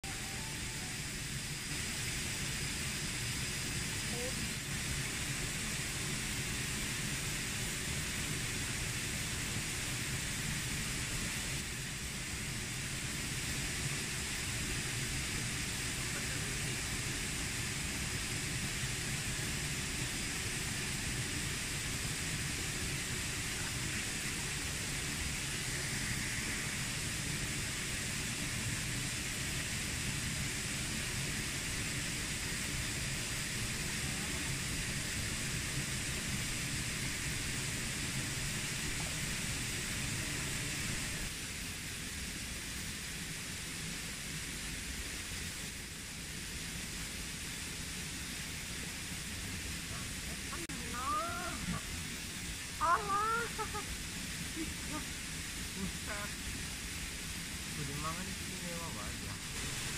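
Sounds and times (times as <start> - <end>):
continuous even hiss: 0.0 - 59.9.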